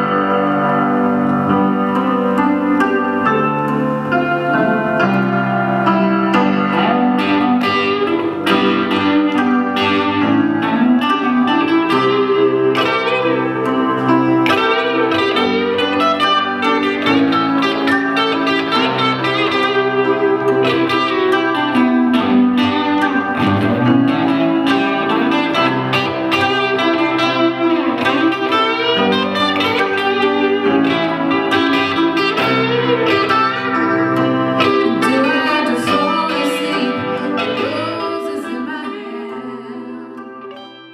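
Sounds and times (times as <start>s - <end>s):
plucked guitar music: 0.0s - 40.9s.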